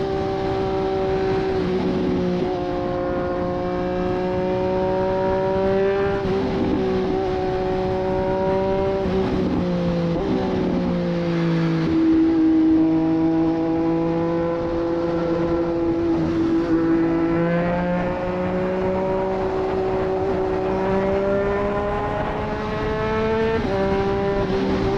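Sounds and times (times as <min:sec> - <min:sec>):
motorcycle engine while riding: 0:00.0 - 0:24.9.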